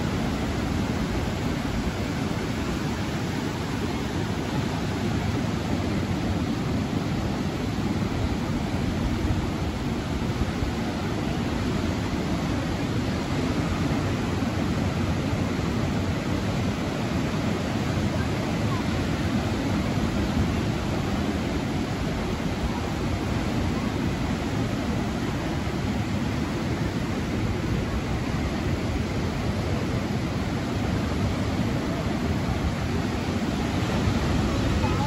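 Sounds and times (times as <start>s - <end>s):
surf breaking on beach: 0.0s - 35.0s.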